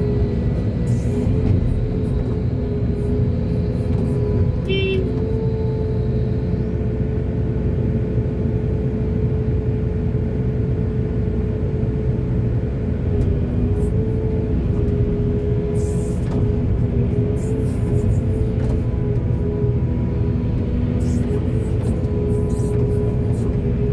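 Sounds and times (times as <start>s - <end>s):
backhoe diesel engine rumble: 0.0s - 23.9s.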